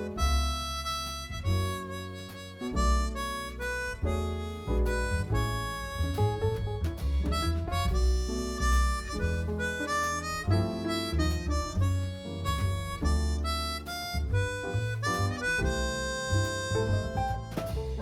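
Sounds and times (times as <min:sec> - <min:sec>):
bass line: 0:00.0 - 0:18.0
reedy lead melody: 0:00.0 - 0:18.0.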